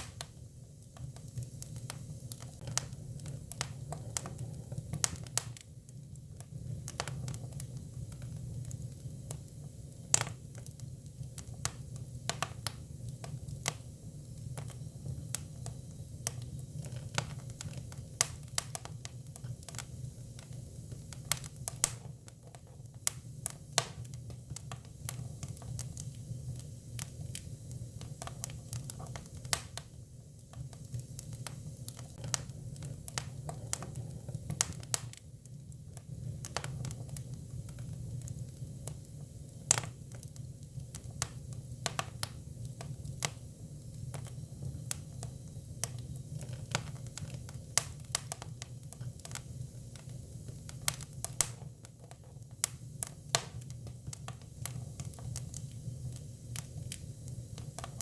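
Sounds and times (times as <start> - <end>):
firewood crackling and popping: 0.0 - 58.0
low rumble of fire: 0.0 - 58.0.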